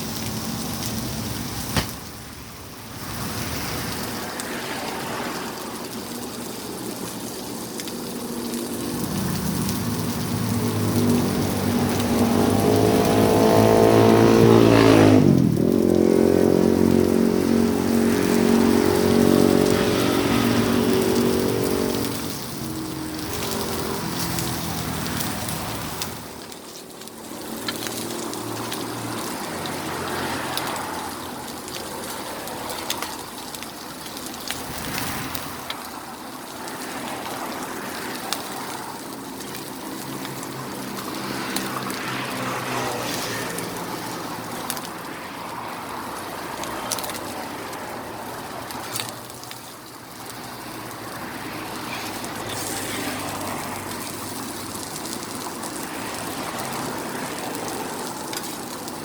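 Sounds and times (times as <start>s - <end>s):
patties sizzling on a griddle: 0.0s - 59.0s
sharp crackles: 0.0s - 59.0s.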